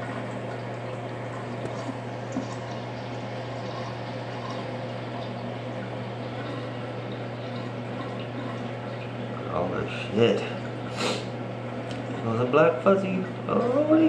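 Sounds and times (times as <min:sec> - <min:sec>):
water running into basin: 0:00.0 - 0:14.0.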